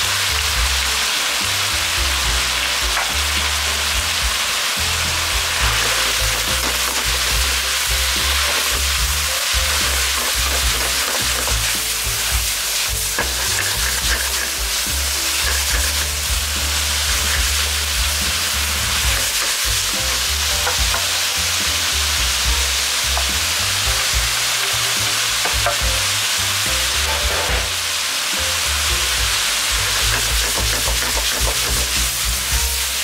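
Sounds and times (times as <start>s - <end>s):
chopsticks scraping a pan: 0.0s - 33.0s
food sizzling in a frying pan: 0.0s - 33.0s.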